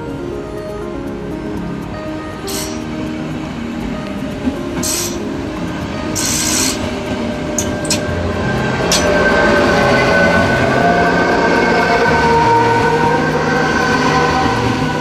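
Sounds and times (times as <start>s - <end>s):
electric train running on track: 0.0s - 15.0s
rising whine: 0.0s - 15.0s.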